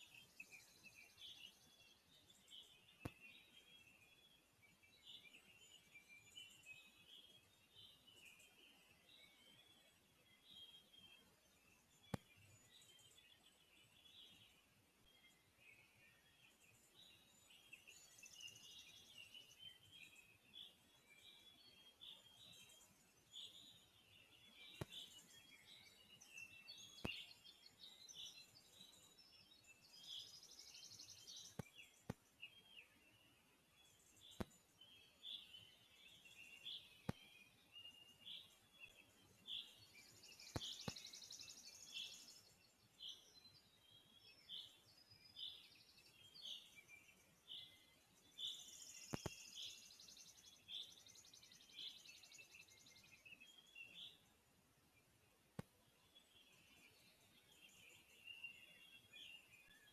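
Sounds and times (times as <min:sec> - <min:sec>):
faint bird chirps: 0:00.0 - 0:59.9.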